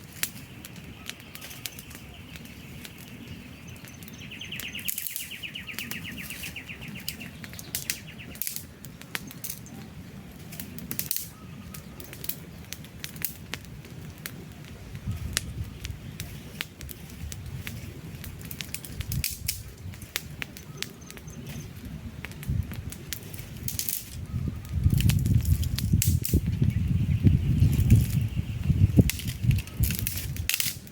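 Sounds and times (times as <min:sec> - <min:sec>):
campfire crackling and popping: 0:00.0 - 0:30.9
low rumble of flames: 0:00.0 - 0:30.9.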